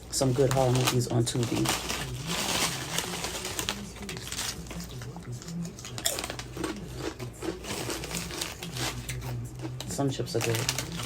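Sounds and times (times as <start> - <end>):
low voice from tv: 0.0 - 11.0
chewing and crunching chips: 0.1 - 11.0.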